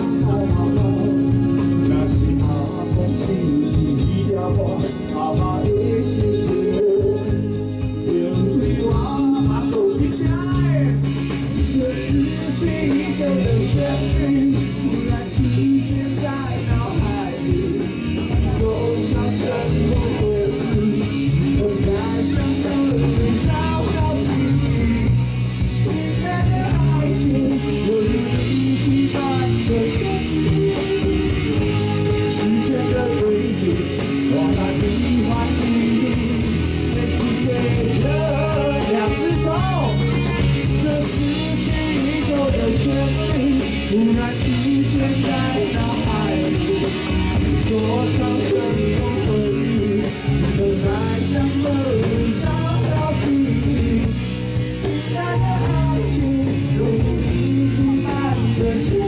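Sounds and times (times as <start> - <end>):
drums with steady beat: 0.0 - 59.0
electric guitar: 0.0 - 59.0.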